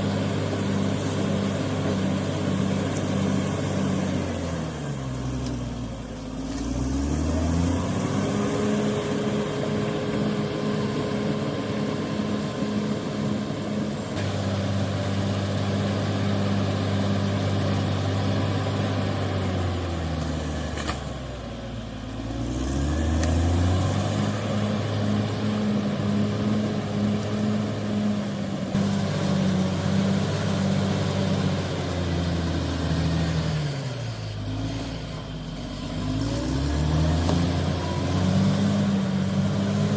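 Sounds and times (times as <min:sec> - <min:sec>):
heavy diesel engine revving: 0:00.0 - 0:20.9, 0:21.5 - 0:39.9.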